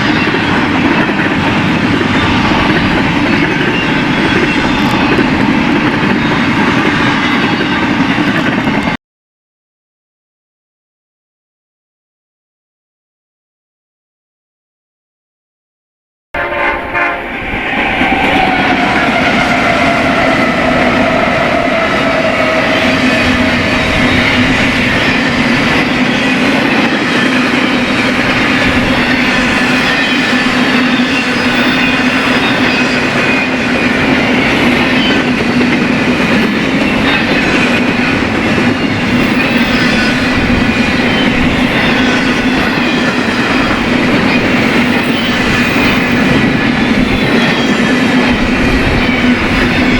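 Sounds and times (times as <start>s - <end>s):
freight train rolling past: 0.0s - 9.0s, 16.4s - 49.9s.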